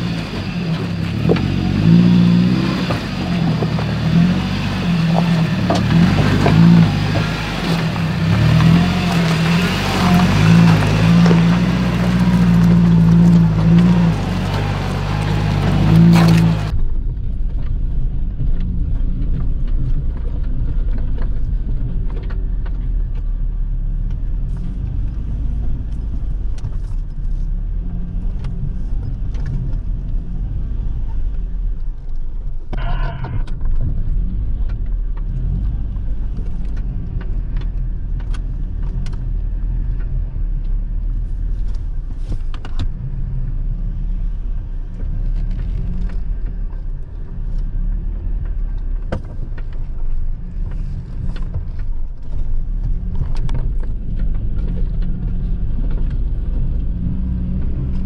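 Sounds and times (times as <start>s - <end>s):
off-road vehicle engine rumbling: 0.0s - 58.0s.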